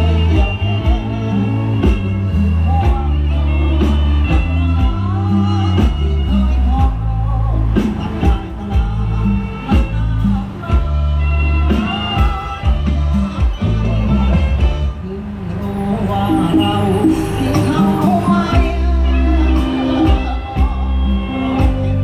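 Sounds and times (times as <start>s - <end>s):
band playing: 0.0s - 22.0s
heavy bass: 0.0s - 22.0s
person singing: 0.0s - 22.0s.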